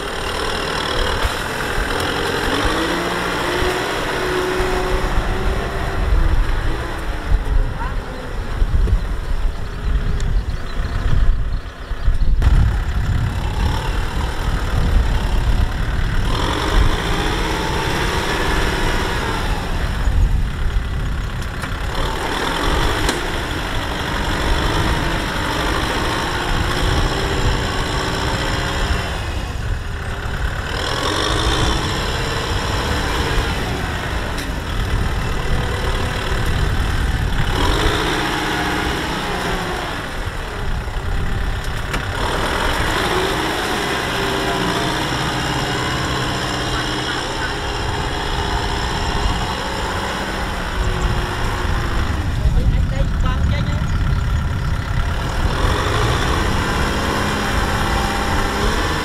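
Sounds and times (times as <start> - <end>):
tractor diesel engine labouring: 0.0 - 59.0.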